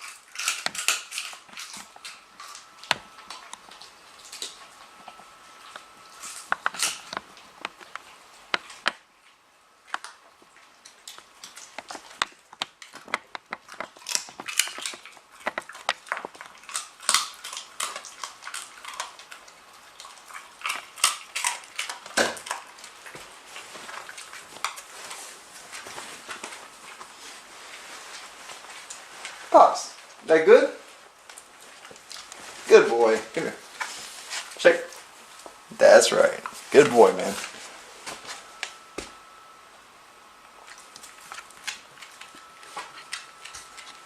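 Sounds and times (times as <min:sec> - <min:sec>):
dog chewing and crunching: 0:00.0 - 0:39.5, 0:40.4 - 0:44.0.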